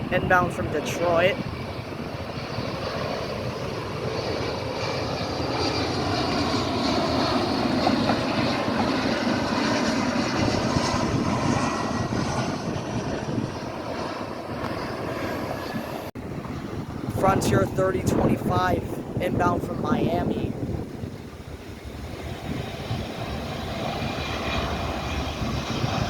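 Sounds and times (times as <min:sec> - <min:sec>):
jet airliner engines droning: 0:00.0 - 0:26.0.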